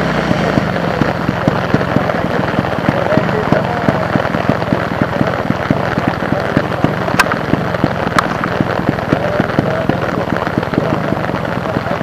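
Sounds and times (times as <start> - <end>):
heavy rain pattering: 0.0 - 12.0
sharp clicks: 0.5 - 11.6.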